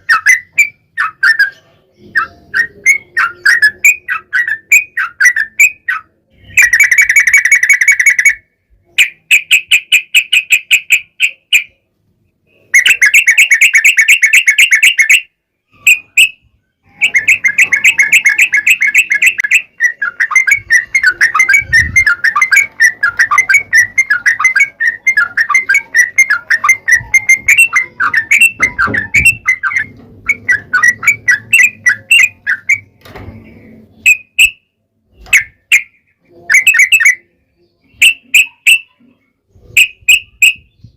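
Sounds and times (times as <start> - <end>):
bird chirping rapidly: 0.0 - 11.8, 12.5 - 33.0, 33.9 - 39.0, 39.6 - 40.9.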